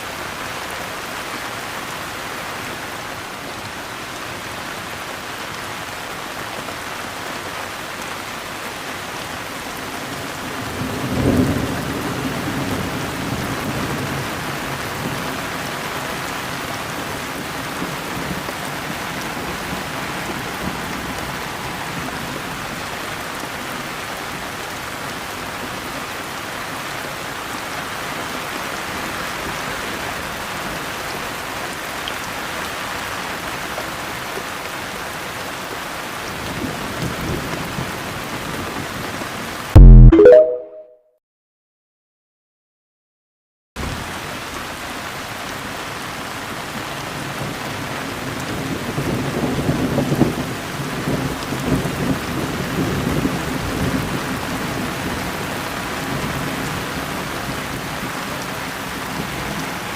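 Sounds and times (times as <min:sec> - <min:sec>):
steady rain falling: 0:00.0 - 0:39.7, 0:43.8 - 0:59.9.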